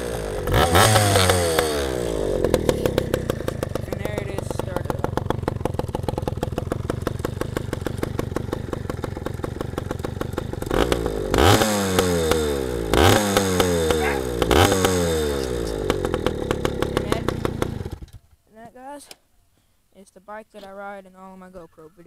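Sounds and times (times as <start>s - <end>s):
two-stroke engine idling and revving: 0.0s - 18.4s.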